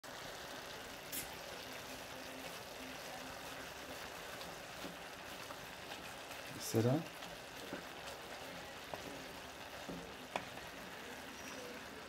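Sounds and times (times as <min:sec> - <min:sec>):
food hissing in a pot: 0:00.1 - 0:12.0.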